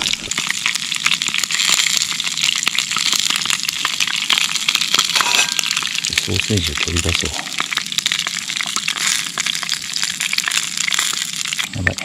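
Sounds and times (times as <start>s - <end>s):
sausages sizzling in a pot: 0.0s - 12.0s.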